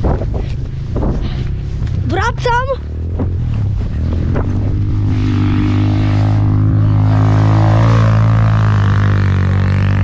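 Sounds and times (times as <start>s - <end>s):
quad engine running: 0.0s - 10.0s.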